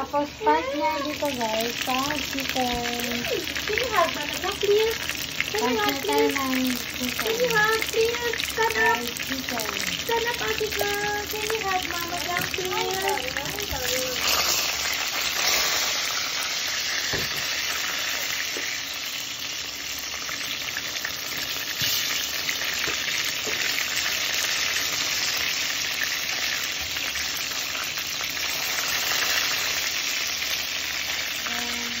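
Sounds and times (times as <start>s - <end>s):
chicken sizzling in oil: 0.0s - 32.0s.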